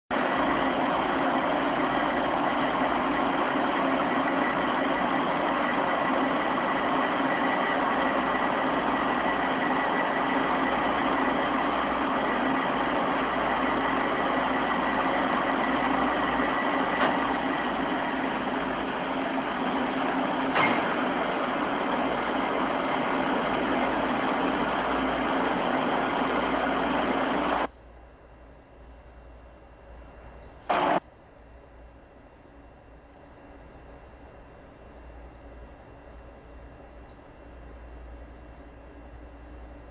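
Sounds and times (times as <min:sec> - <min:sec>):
mechanical hum and hiss: 0:00.1 - 0:39.9.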